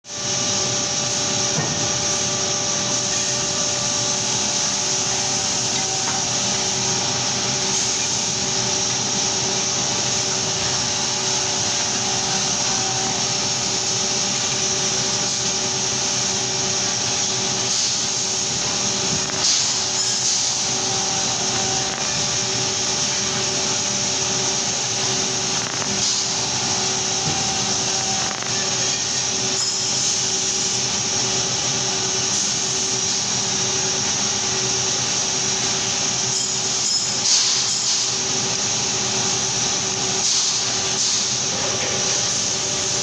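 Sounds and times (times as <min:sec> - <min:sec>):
metal bending machine hum and hiss: 0:00.0 - 0:43.0.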